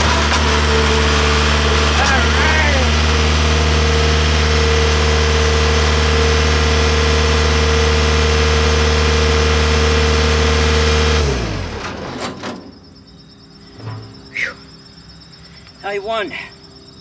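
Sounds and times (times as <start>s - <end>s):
loader engine idling and shutting off: 0.0s - 15.8s.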